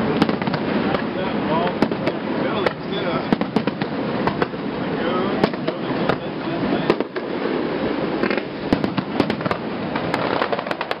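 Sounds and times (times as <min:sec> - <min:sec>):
distant fireworks bursts: 0:00.0 - 0:11.0
sharp firework pops: 0:00.1 - 0:04.6, 0:05.4 - 0:07.6, 0:08.2 - 0:11.0.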